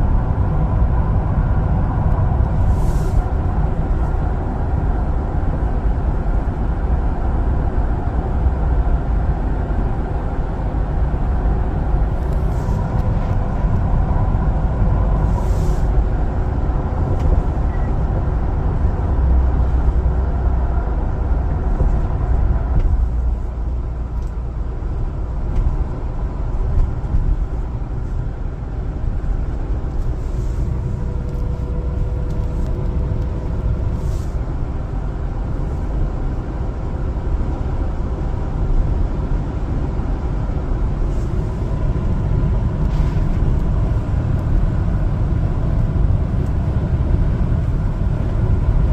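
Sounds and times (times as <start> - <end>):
truck engine and road rumble: 0.0 - 48.9.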